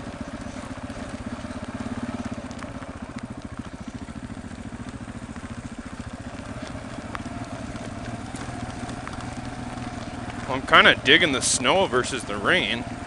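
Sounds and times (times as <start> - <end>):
gravel clicks: 0.0 - 13.0
motorcycle engine running: 0.0 - 13.0.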